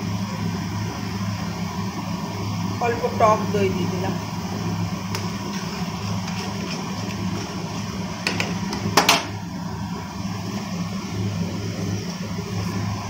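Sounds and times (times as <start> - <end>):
curry boiling in a pan: 0.0 - 13.0.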